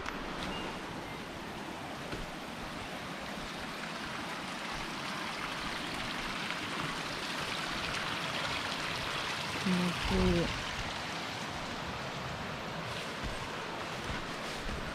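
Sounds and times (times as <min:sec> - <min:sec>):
river water flowing over stones: 0:00.0 - 0:14.9.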